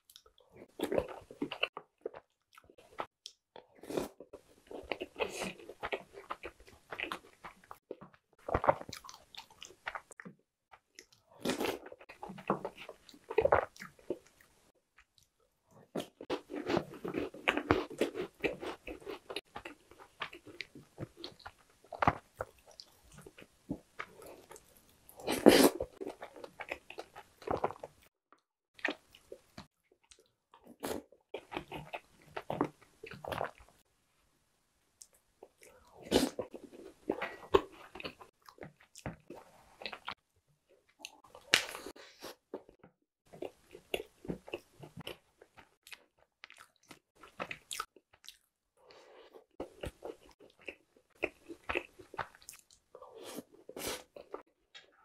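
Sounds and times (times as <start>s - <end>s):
close-miked chewing and biting: 0.0s - 28.1s, 28.8s - 33.8s, 35.0s - 40.2s, 43.3s - 48.5s, 49.5s - 54.9s.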